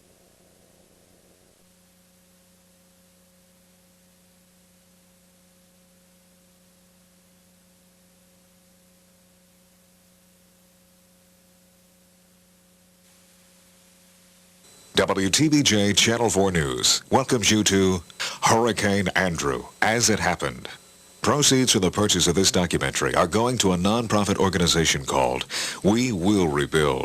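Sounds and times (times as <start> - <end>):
faint steady hum: 0.0 - 27.0
soft hiss: 0.0 - 27.0.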